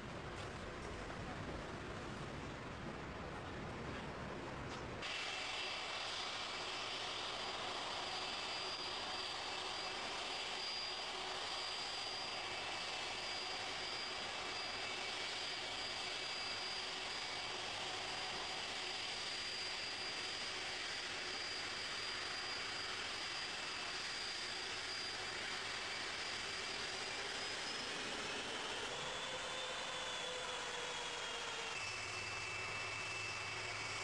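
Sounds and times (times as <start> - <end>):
jet engines whining: 5.0 - 34.0.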